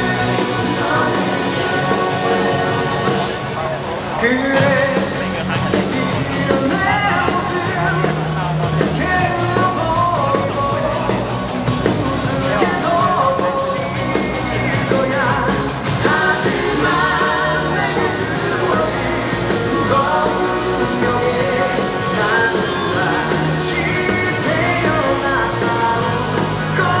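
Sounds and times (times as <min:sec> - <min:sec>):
rock song over sound system: 0:00.0 - 0:27.0.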